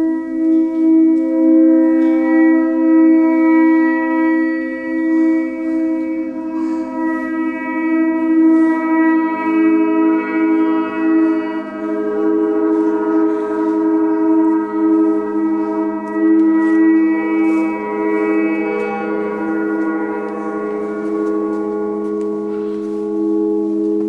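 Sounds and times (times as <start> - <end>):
gongs ringing drone: 0.0 - 24.0
soft mallet strokes: 0.0 - 24.0.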